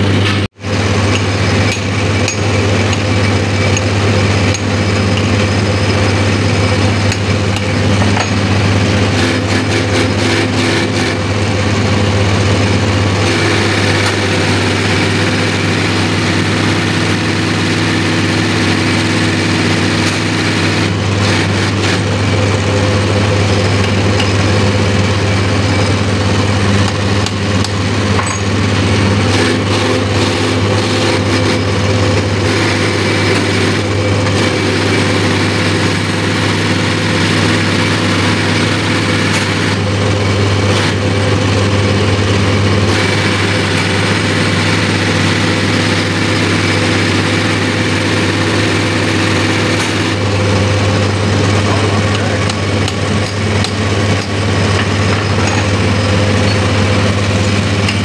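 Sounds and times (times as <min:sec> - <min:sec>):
machine mechanical hum: 0:00.0 - 0:58.0.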